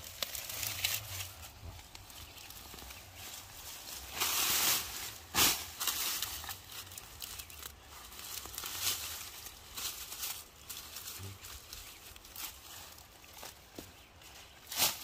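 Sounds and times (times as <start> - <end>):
vines and leaves rustling and tearing: 0.0 - 15.0.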